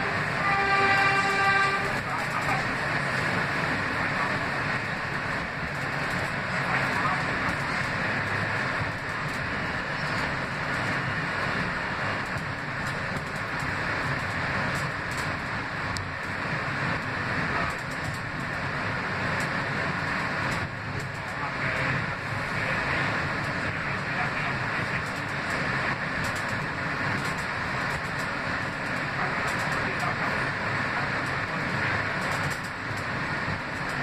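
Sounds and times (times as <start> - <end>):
subway car running noise: 0.0 - 34.0.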